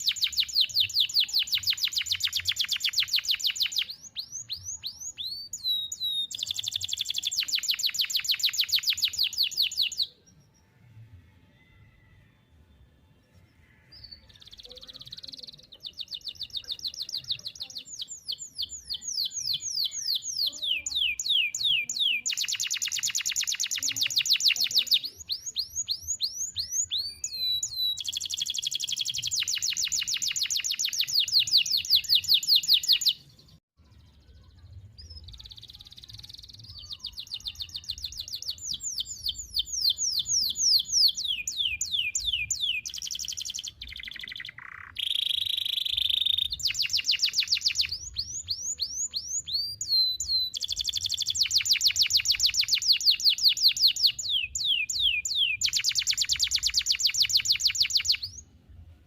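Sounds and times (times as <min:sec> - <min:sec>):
canary singing trills: 0:00.0 - 0:10.8, 0:11.5 - 0:58.6.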